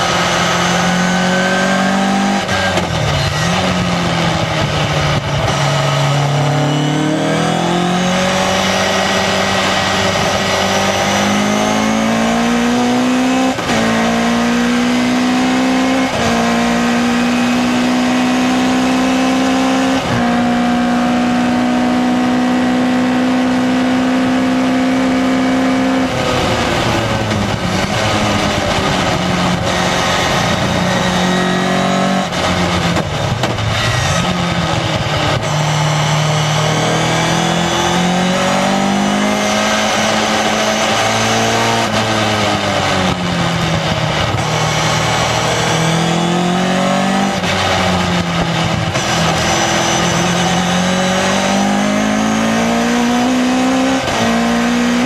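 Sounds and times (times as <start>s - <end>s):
sports car engine revving: 0.0s - 55.0s.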